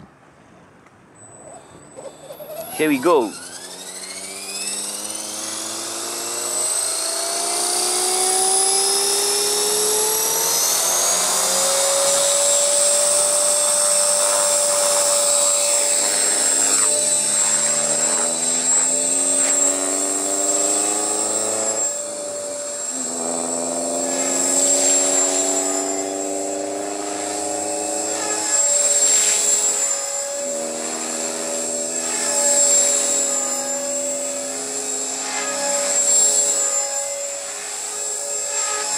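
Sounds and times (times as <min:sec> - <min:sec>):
rc helicopter motor whine: 0:01.2 - 0:38.9
rotor buzz: 0:01.3 - 0:38.9.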